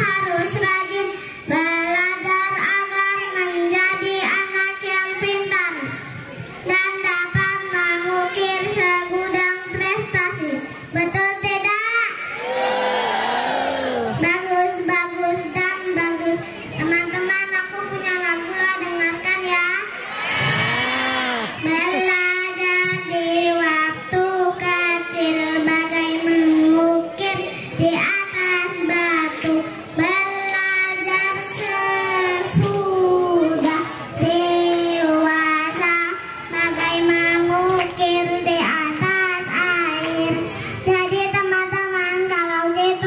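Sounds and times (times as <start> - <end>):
boy singing into microphone: 0.0 - 12.2, 20.4 - 43.0.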